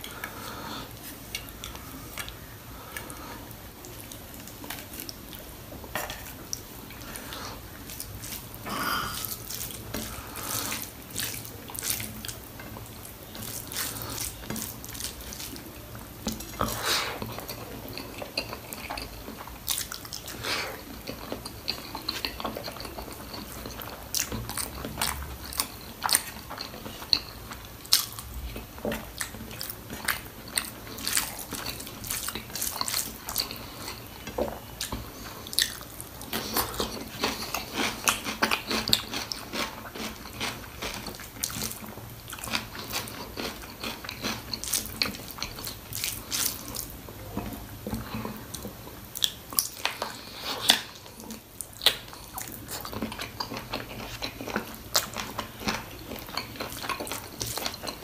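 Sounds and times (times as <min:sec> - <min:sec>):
wet chewing and lip-smacking: 0:00.1 - 0:03.2, 0:06.5 - 0:58.0.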